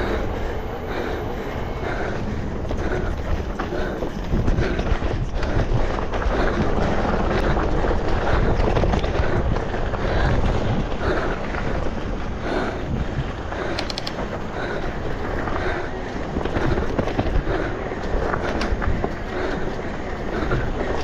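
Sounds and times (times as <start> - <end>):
bike rattling on dirt trail: 0.0 - 21.0.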